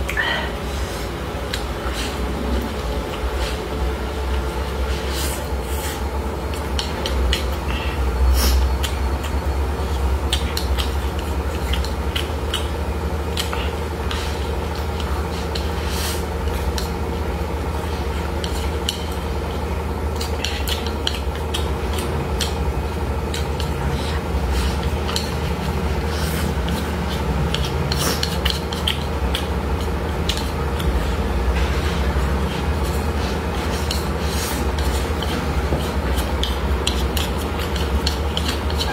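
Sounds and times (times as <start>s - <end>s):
steady low hum: 0.0s - 38.9s
chewing: 5.9s - 38.9s.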